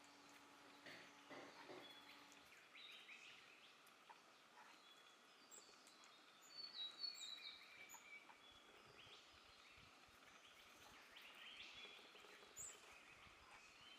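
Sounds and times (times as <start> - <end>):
faint birdsong chirps: 0.0 - 13.9.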